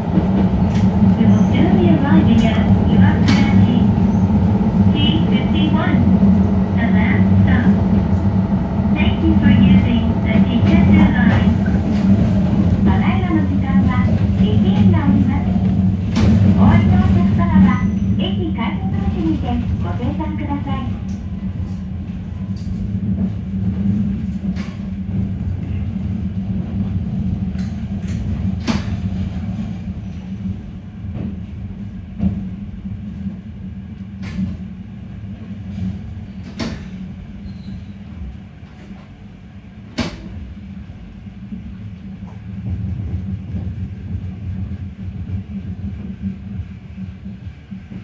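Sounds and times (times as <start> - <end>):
electric train rumble: 0.0 - 48.0.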